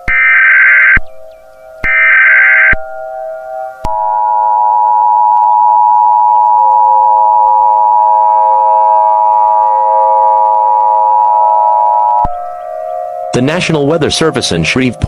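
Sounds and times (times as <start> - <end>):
electronic two-tone alarm: 0.0 - 15.0
faint steady tones: 0.0 - 15.0.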